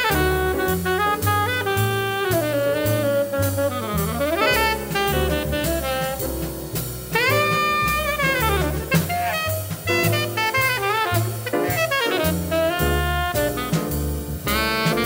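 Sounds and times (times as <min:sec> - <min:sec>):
tenor saxophone melody: 0:00.0 - 0:06.5, 0:07.2 - 0:15.0
drums with cymbal strokes: 0:00.0 - 0:15.0
piano: 0:00.0 - 0:15.0
walking double bass: 0:00.0 - 0:15.0.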